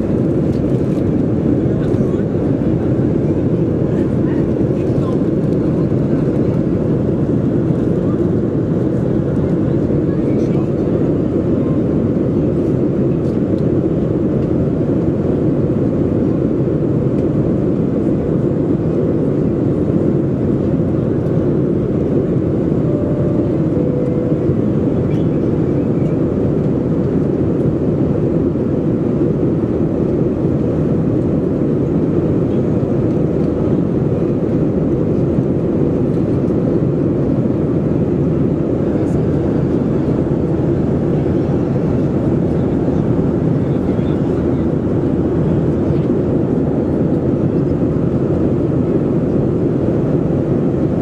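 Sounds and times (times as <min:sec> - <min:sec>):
airplane cabin engine rush: 0:00.0 - 0:51.0.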